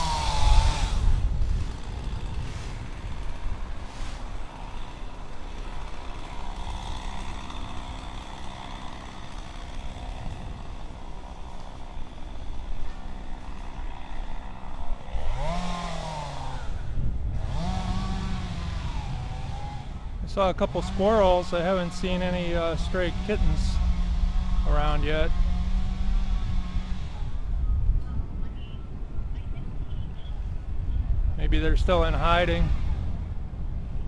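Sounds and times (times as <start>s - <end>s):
road noise: 0.0s - 34.0s
wind rumbling on microphone: 0.0s - 34.0s.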